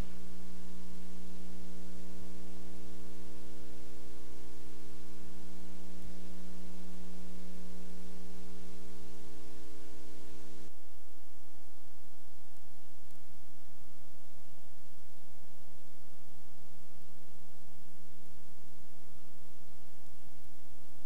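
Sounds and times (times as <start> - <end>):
electrical hum with hiss: 0.0 - 21.0.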